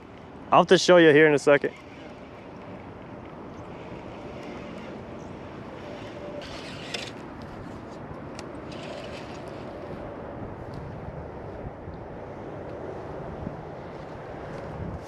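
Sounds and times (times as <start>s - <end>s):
distant traffic: 0.0s - 15.0s
wind: 0.0s - 15.0s.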